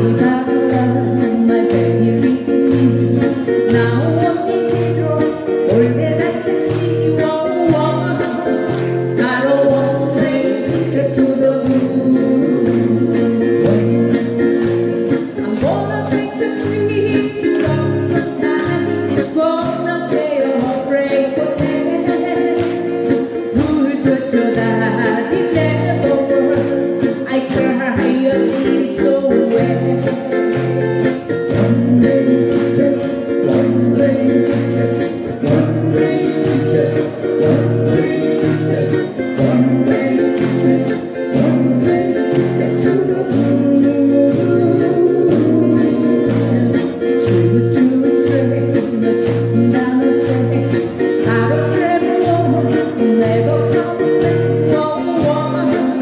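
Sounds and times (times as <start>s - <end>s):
person singing: 0.0s - 56.0s
strummed acoustic guitars: 0.0s - 56.0s.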